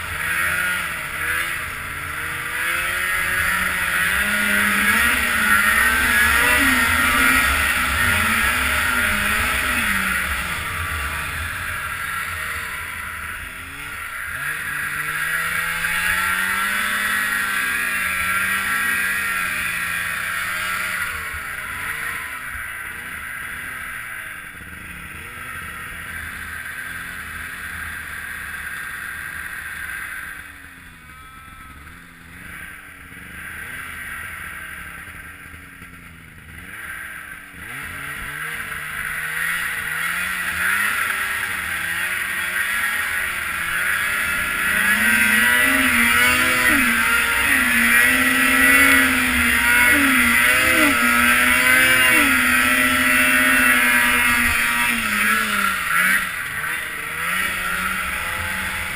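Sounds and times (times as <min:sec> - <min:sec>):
snowmobile engine revving: 0:00.0 - 0:58.9.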